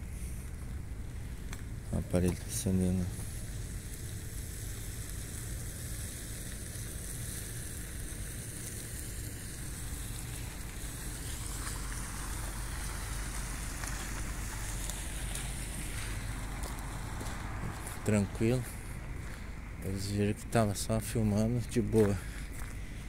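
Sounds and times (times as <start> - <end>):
traffic on wet streets: 0.0 - 23.0.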